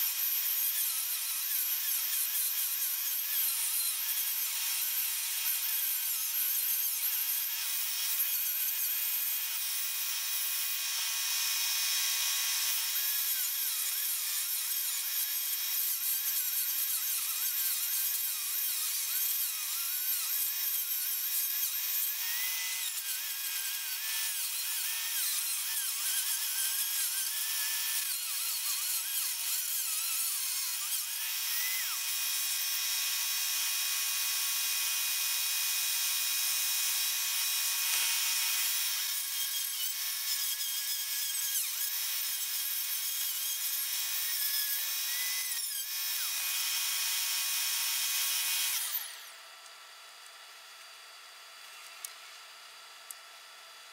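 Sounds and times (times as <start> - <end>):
rotary tool whining: 0.0 - 50.3.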